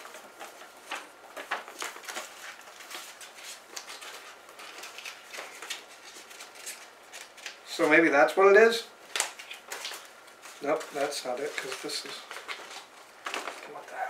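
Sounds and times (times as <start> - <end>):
paper rustling and crinkling: 0.0 - 8.0, 9.0 - 14.0.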